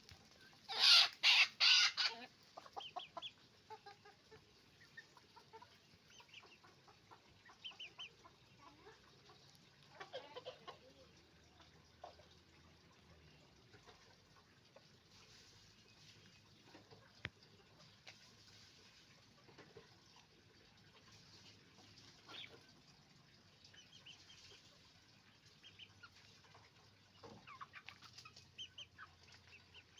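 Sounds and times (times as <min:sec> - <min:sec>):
chickens clucking: 0:00.0 - 0:29.9.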